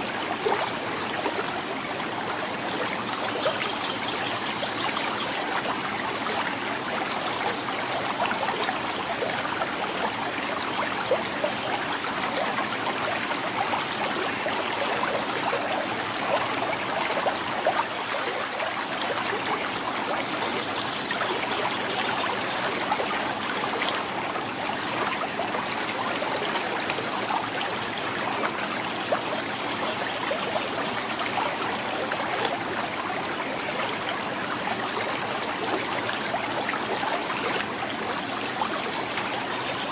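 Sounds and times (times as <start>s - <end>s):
river flowing over stones: 0.0s - 39.9s
water trickles and splashes: 0.0s - 39.9s.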